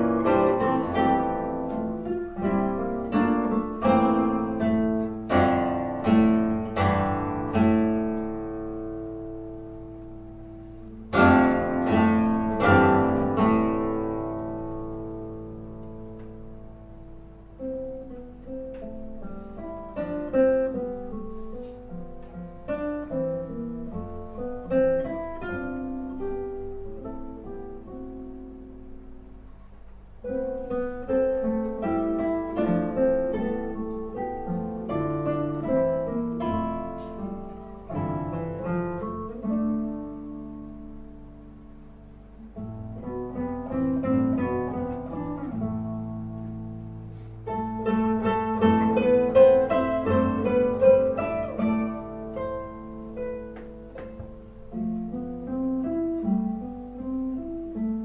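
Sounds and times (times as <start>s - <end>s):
classical guitar quartet playing: 0.0s - 29.6s, 30.2s - 58.0s.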